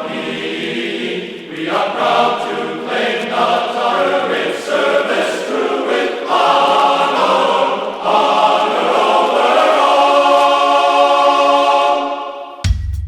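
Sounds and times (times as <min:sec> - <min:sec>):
choir singing held chords: 0:00.0 - 0:12.7.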